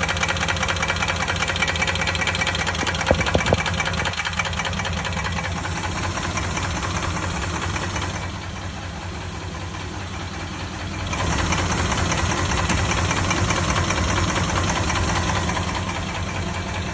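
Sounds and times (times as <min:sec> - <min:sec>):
engine idling with tapping: 0:00.0 - 0:16.9.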